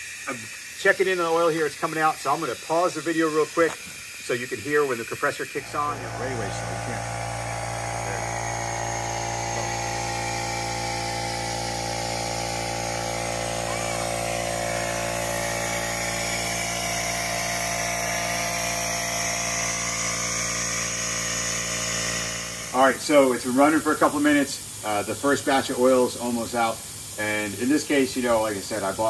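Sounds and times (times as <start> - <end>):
air compressor motor hum: 0.0 - 29.0
high hiss of air: 0.0 - 29.0.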